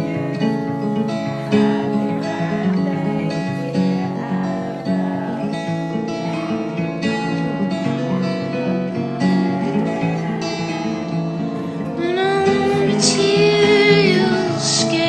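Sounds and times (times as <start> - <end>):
acoustic guitar picked: 0.0 - 15.0.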